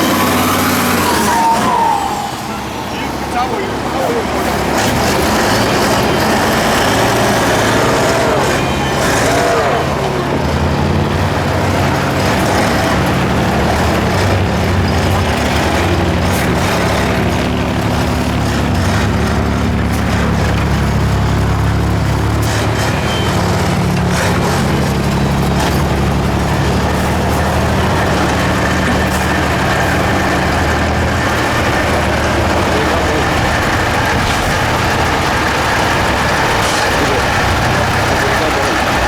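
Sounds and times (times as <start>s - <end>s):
truck engine running under load: 0.0s - 39.0s.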